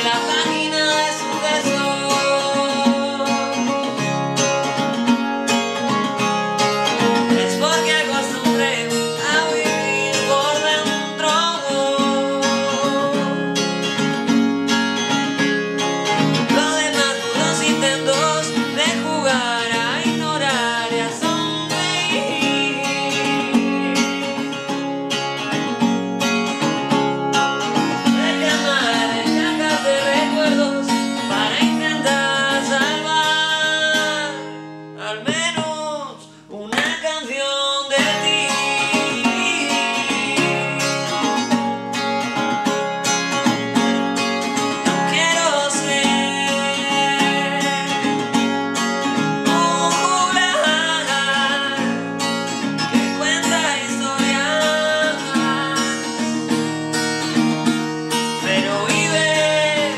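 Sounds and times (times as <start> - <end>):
man singing: 0.0 - 4.6, 6.1 - 13.7, 16.1 - 25.6, 27.6 - 41.8, 42.8 - 57.4, 58.1 - 59.9
acoustic guitar strummed and picked: 0.0 - 59.9.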